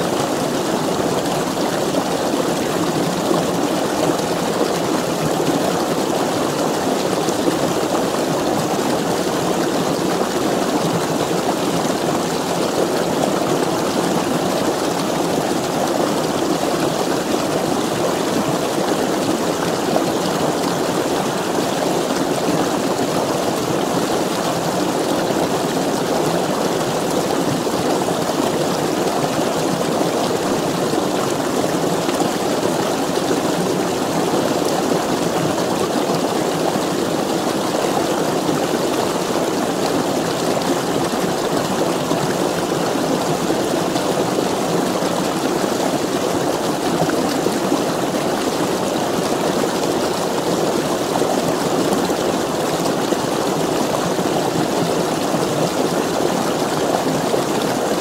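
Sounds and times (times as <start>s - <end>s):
stream rushing and splashing: 0.0s - 58.0s.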